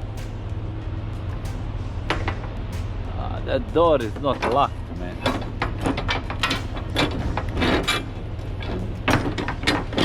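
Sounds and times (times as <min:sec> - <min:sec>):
truck engine idling: 0:00.0 - 0:10.0
metallic clanks and knocks: 0:01.2 - 0:10.0.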